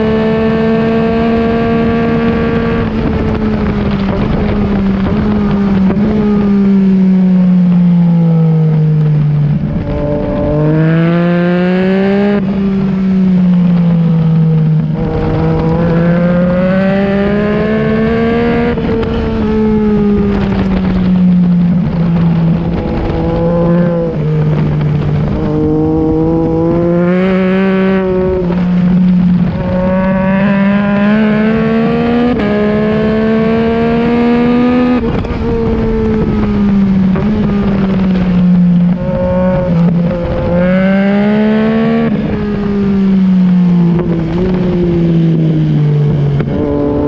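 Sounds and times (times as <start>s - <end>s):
motorcycle engine revving: 0.0s - 47.0s
wind rushing past microphone: 0.0s - 47.0s.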